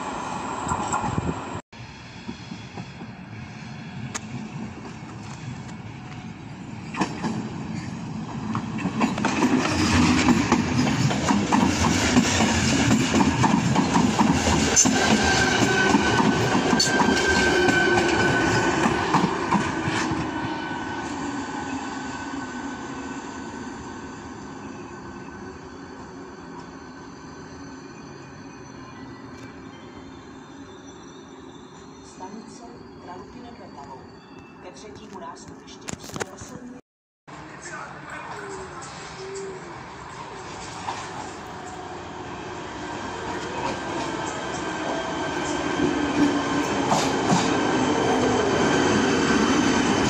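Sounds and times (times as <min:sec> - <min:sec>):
train passing: 0:00.0 - 0:35.9, 0:37.3 - 0:50.0.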